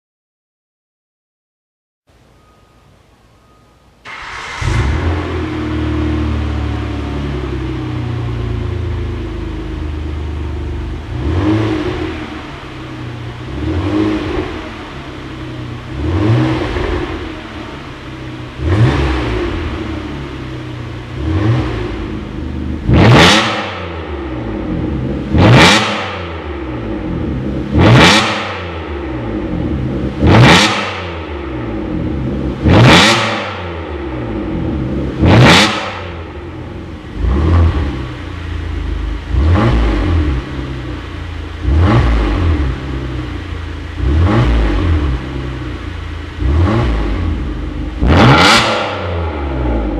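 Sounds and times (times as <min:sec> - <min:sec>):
car engine revving: 0:04.1 - 0:49.9.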